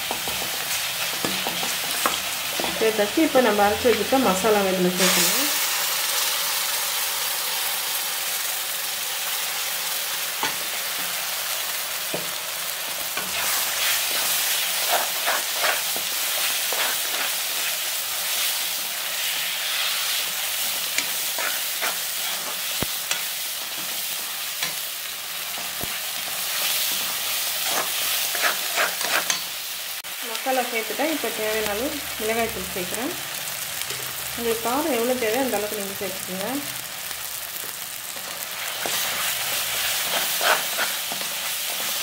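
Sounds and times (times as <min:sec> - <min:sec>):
paste sizzling in hot oil: 0:00.0 - 0:42.0.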